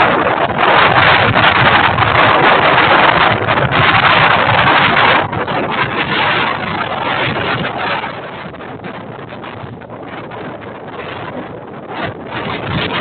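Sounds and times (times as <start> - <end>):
strong wind gusts buffeting microphone: 0.0 - 13.0.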